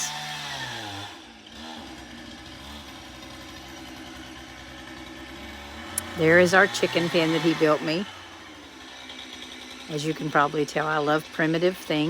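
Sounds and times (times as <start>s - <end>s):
chainsaw engine idling: 0.0s - 12.0s.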